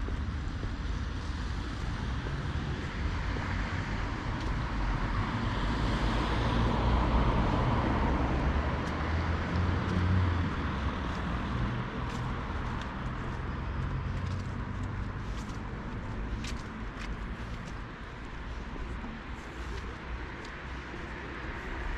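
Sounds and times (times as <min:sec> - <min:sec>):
cars passing: 0:00.0 - 0:21.9
low traffic rumble: 0:00.0 - 0:21.9.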